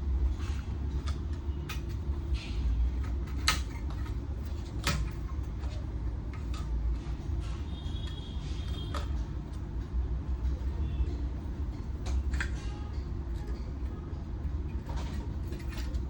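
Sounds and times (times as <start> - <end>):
parts clicking and knocking: 0.2 - 9.8, 11.4 - 16.0.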